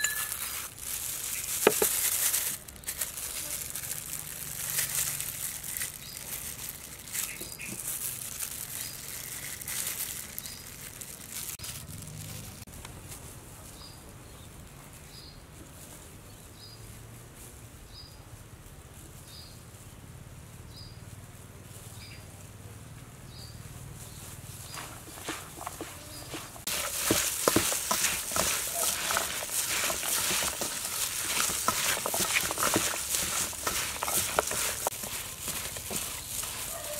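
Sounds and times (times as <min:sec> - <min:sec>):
hands crinkling and rustling: 0:00.0 - 0:17.9, 0:24.0 - 0:36.9.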